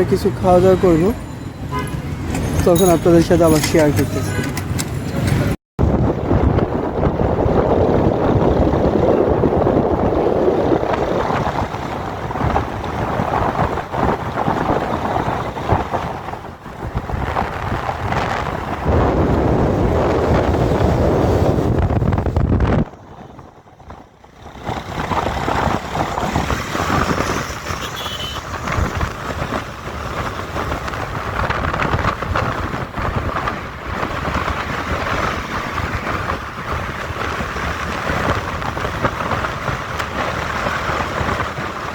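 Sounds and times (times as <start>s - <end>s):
road vehicle noise: 0.0s - 41.9s
wind rushing on microphone: 0.0s - 41.9s.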